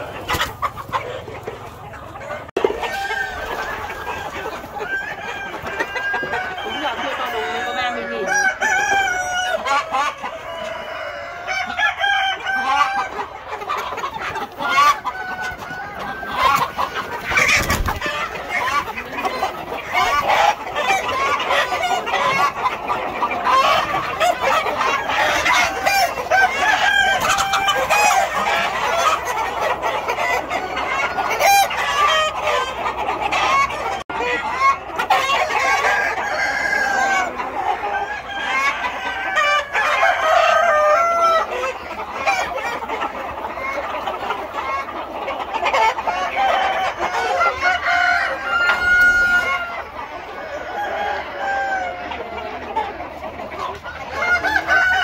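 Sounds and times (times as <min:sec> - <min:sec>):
roosters crowing: 0:00.0 - 0:01.4, 0:02.1 - 0:55.0
hens clucking: 0:00.0 - 0:55.0.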